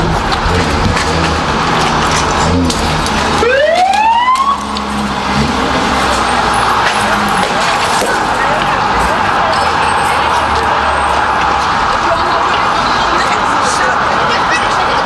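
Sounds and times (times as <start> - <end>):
emergency vehicle siren: 0.0 - 15.0
street noise: 0.0 - 15.0.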